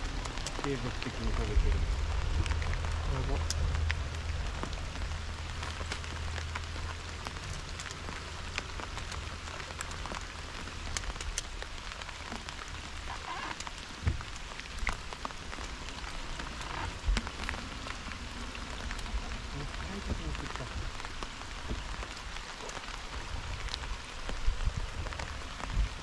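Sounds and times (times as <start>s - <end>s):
rain falling on water: 0.0s - 26.0s.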